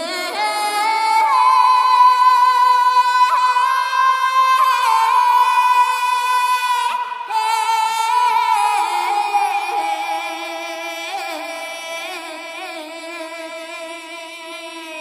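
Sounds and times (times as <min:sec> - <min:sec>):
high voice singing long notes: 0:00.0 - 0:15.0.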